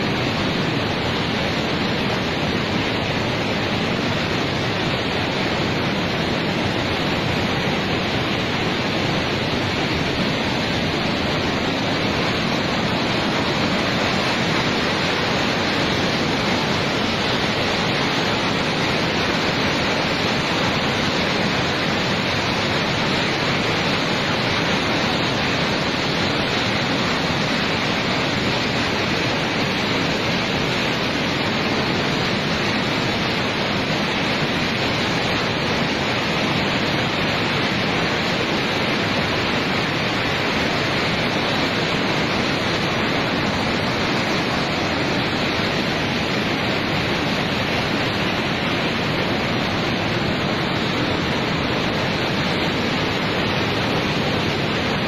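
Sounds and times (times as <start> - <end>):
river rushing through rapids: 0.0 - 55.0.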